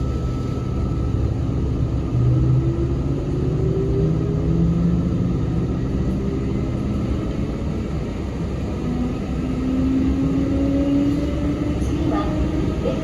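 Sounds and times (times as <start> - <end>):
train drive whine: 0.0 - 13.0
train wheels rumbling on rail: 0.0 - 13.0.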